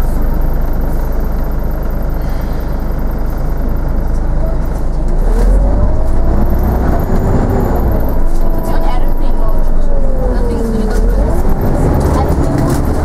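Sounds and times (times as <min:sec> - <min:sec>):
bus accelerating whine: 0:00.0 - 0:13.0
bus engine and road rumble: 0:00.0 - 0:13.0.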